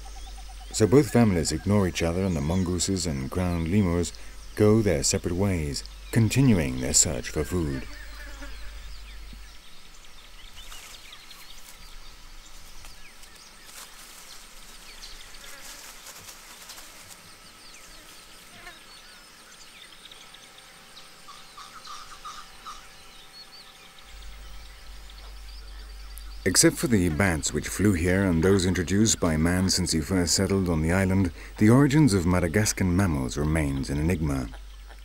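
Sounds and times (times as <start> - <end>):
insects chirping and buzzing: 0.0 - 35.0.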